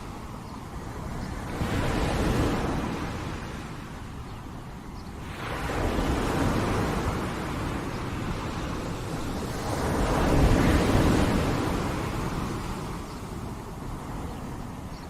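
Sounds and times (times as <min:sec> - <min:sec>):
sea waves washing onto shore: 0:00.0 - 0:15.0.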